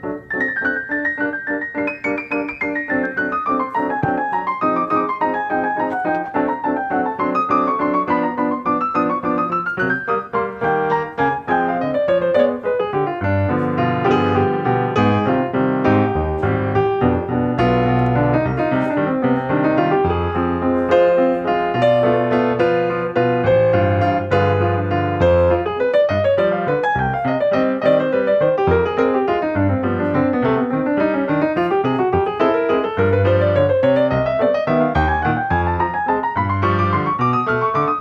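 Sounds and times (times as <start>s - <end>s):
piano music: 0.0s - 38.0s.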